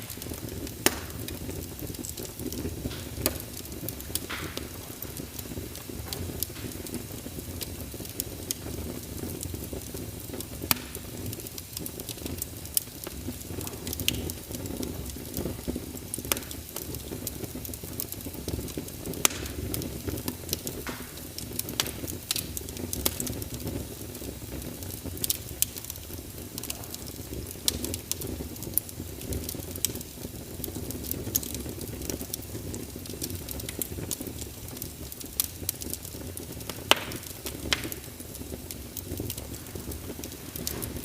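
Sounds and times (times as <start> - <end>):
fire crackling and popping: 0.0 - 41.0
low rumble of burning: 0.0 - 41.0.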